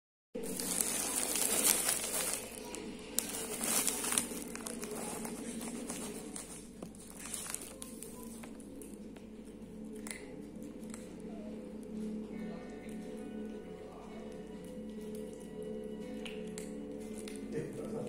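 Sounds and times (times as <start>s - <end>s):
cats crunching dry kibble: 0.4s - 18.0s.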